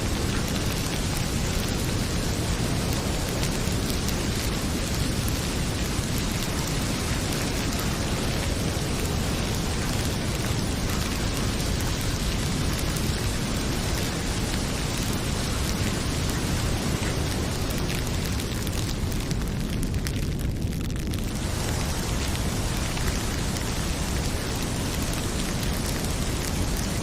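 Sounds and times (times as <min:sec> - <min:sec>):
heavy rain pouring: 0:00.0 - 0:27.0
wood fire crackling: 0:00.0 - 0:27.0.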